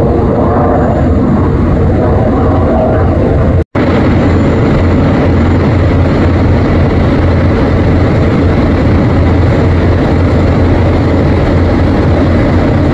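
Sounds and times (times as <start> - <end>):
jet aircraft flying past: 0.0 - 12.9.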